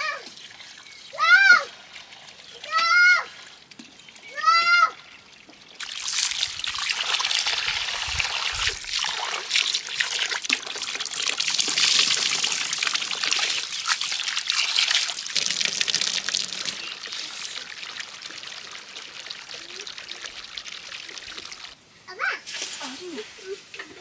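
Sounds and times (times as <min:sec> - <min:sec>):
water splashing into a bowl: 0:00.0 - 0:21.8, 0:22.5 - 0:24.0.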